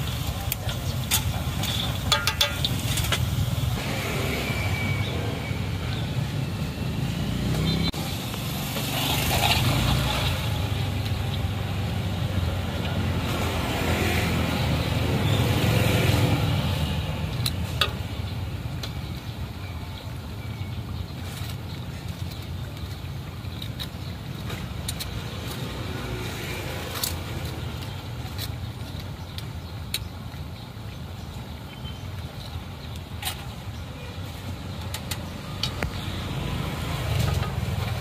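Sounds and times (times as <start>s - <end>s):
passing vehicles rumbling: 0.0s - 19.6s, 20.2s - 30.2s, 33.2s - 38.0s.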